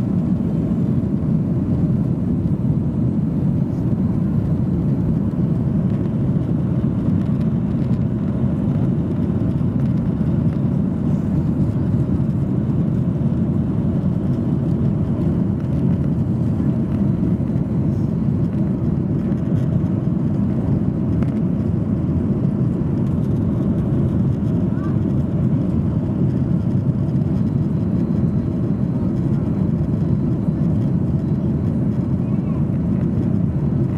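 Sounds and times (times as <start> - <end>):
jet engine rumble in cabin: 0.0 - 33.9.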